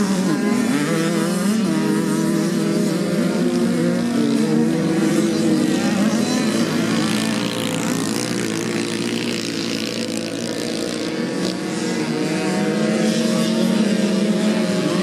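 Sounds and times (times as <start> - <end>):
moped engines buzzing at high revs: 0.0 - 15.0.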